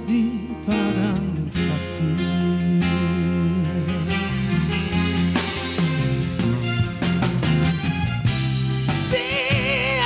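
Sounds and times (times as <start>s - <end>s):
instrumental band music: 0.0s - 10.0s.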